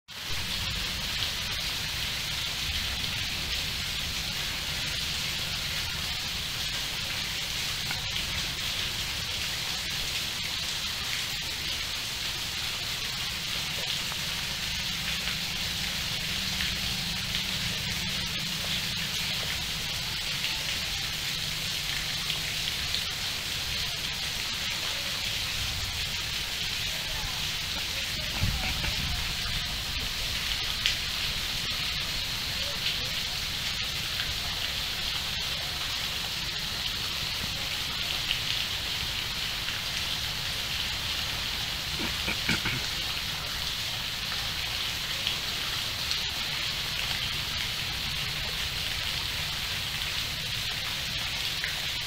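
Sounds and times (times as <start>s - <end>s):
rain falling on foliage: 0.1s - 52.0s.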